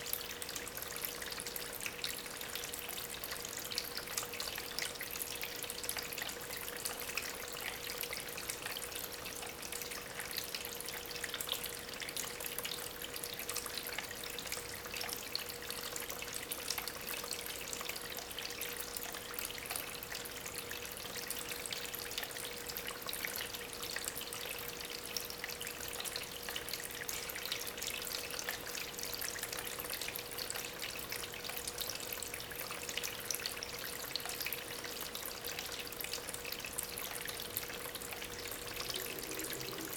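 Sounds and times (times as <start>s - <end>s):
faint pump hum: 0.0s - 39.9s
water trickling over stones: 0.0s - 39.9s.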